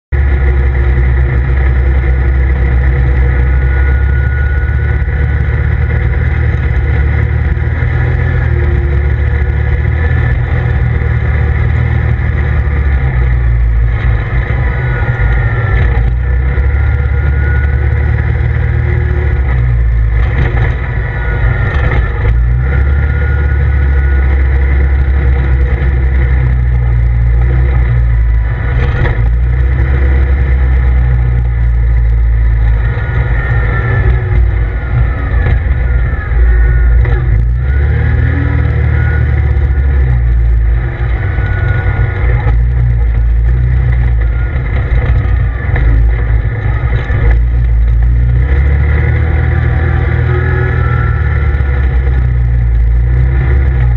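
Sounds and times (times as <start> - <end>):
vehicle engine droning: 0.0 - 53.9
thin drivetrain whine: 0.1 - 53.9.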